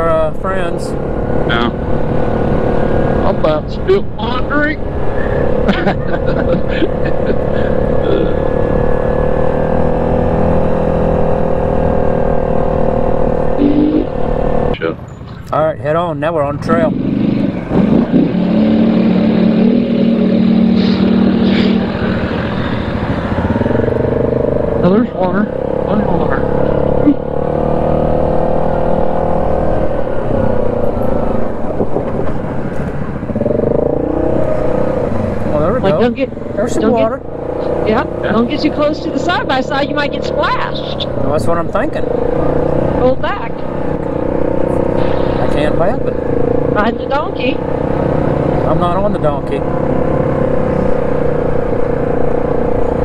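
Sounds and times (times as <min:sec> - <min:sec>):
rumbling wind: 0:00.0 - 0:48.7
off-road vehicle engine running: 0:00.0 - 0:53.0.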